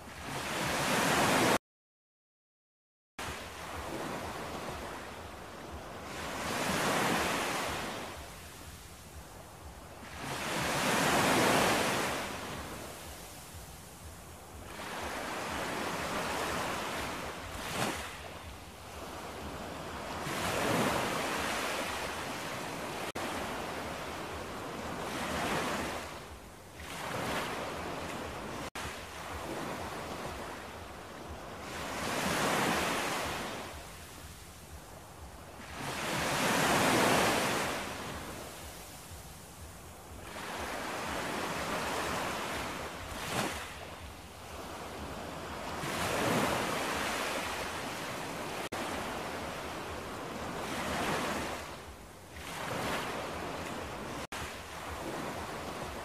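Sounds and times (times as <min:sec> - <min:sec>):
waves breaking on beach: 0:00.0 - 0:01.6, 0:03.2 - 0:56.0.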